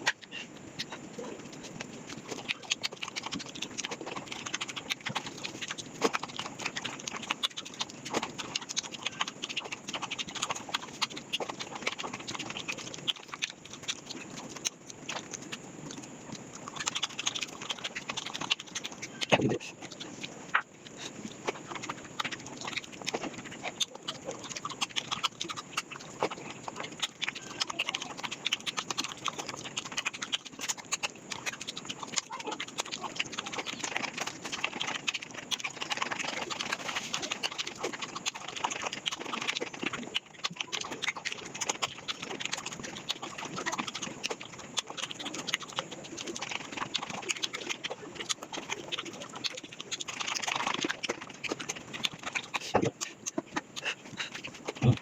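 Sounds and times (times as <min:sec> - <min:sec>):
sped-up wet chewing: 0:00.0 - 0:55.0.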